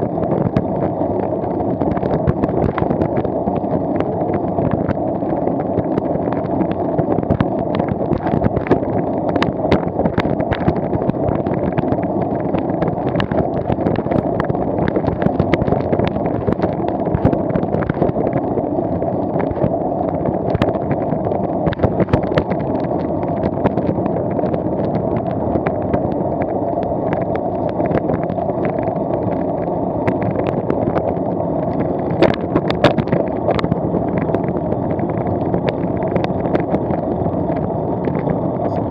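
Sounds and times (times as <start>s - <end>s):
wheels rolling on asphalt: 0.0s - 38.9s
wind on microphone: 0.0s - 38.9s.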